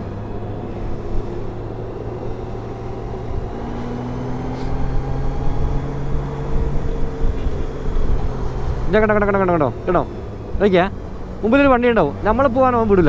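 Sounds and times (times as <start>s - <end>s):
motorcycle engine hum: 0.0s - 13.0s
road and wind noise: 0.0s - 13.0s.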